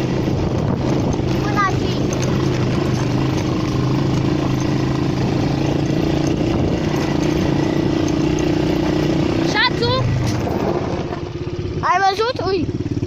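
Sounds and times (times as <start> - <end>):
atv engine running: 0.0 - 13.0
road and tyre noise: 0.0 - 13.0.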